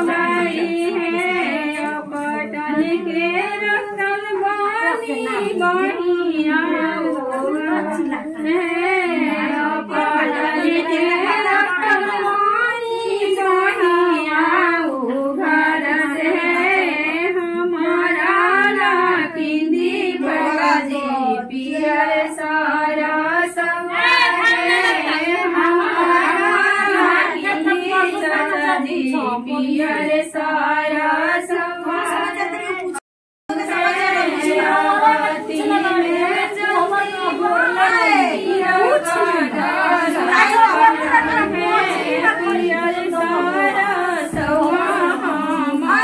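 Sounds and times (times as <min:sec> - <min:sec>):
women singing together: 0:00.0 - 0:46.0.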